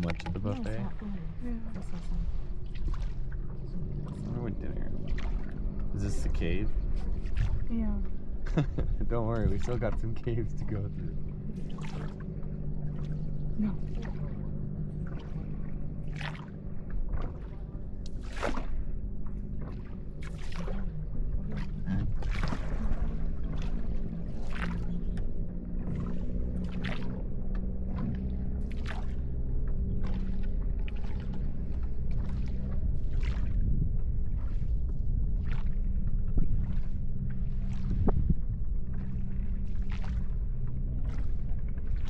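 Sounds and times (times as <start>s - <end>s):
boat engine humming: 0.0s - 42.0s
water slapping against hull: 0.0s - 42.0s.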